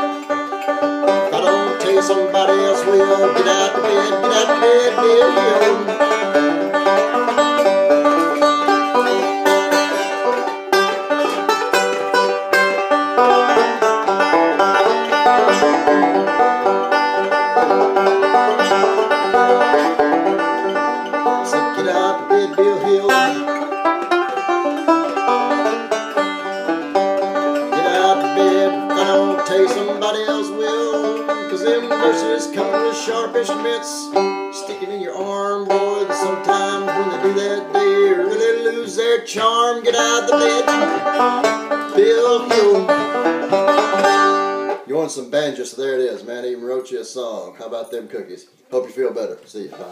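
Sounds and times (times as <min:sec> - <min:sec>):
banjo picking a tune: 0:00.0 - 0:49.9.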